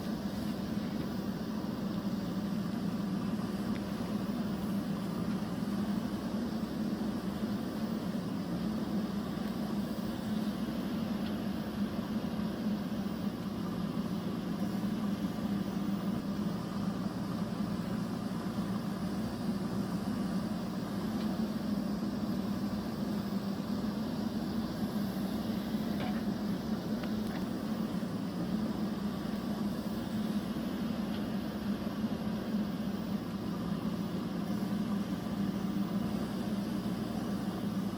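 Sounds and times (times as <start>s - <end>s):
machine hum with low drone: 0.0s - 37.9s.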